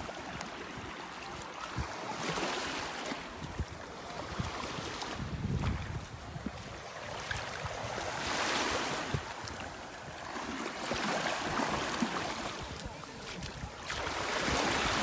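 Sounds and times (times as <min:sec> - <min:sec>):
small waves washing ashore: 0:00.0 - 0:15.0.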